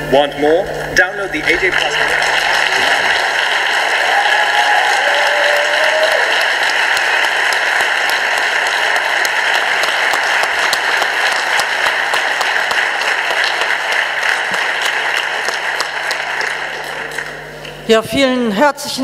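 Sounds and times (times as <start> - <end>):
audience applauding: 1.0 - 17.8.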